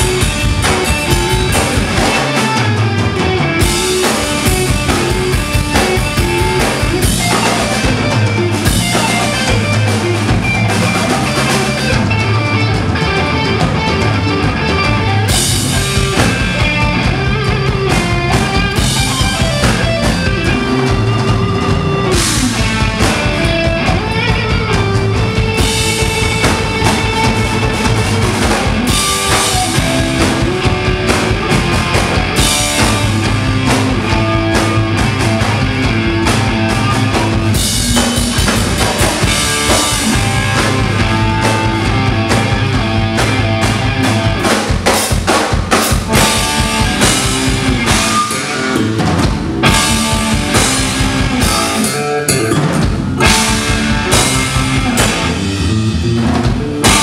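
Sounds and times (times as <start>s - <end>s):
sustained bass notes: 0.0s - 45.0s, 45.7s - 57.0s
busy drumming: 0.0s - 57.0s
electric guitar melody: 0.0s - 57.0s.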